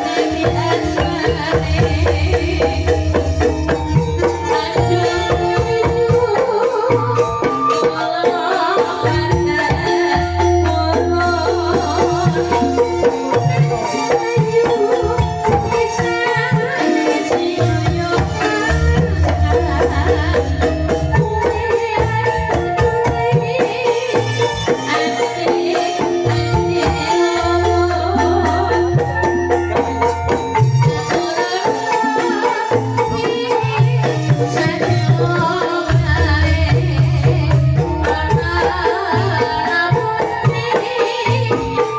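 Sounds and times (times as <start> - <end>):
bamboo xylophones playing: 0.0 - 41.9
hand drum rhythm: 0.0 - 41.9.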